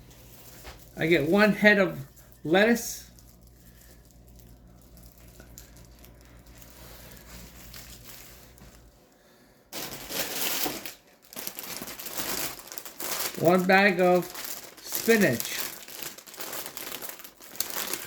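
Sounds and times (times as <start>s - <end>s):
plastic packaging crinkling: 0.2s - 8.9s, 9.7s - 18.0s.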